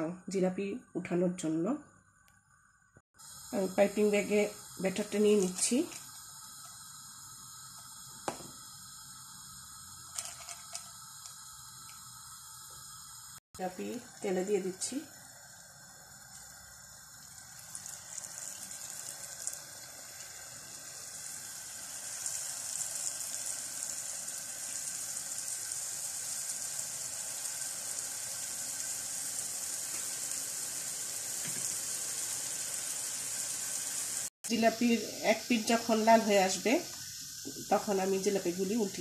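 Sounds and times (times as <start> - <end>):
batter frying in hot oil: 3.2 - 39.0.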